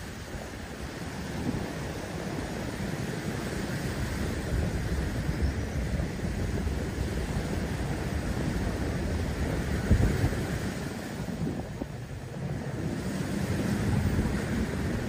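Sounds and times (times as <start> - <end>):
small waves lapping: 0.0 - 15.0
wind rumbling on microphone: 0.0 - 15.0.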